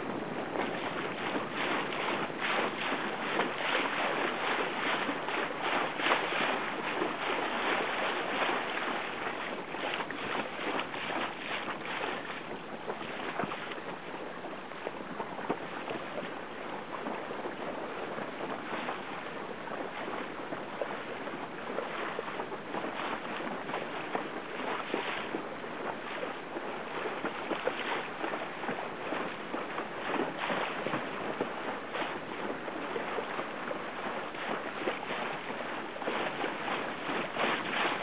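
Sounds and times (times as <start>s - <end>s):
rushing splashing water: 0.0s - 38.0s
wind buffeting microphone: 0.0s - 38.0s.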